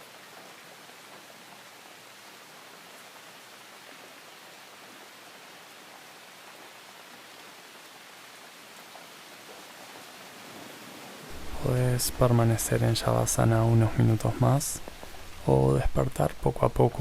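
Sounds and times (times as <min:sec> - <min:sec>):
soft rain: 0:00.0 - 0:17.0.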